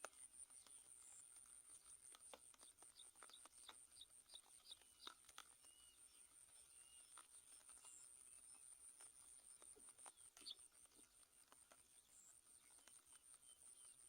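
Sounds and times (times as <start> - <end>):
faint high chirps: 2.6 - 14.0.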